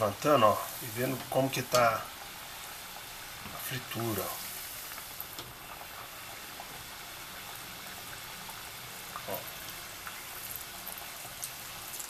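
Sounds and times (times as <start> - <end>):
deep-frying sizzle: 0.0 - 12.0.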